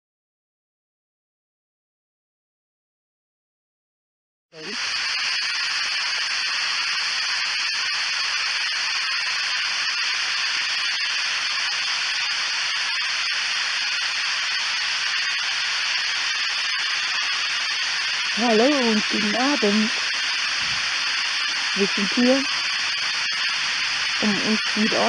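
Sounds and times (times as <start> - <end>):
radio static hiss: 4.6 - 25.0.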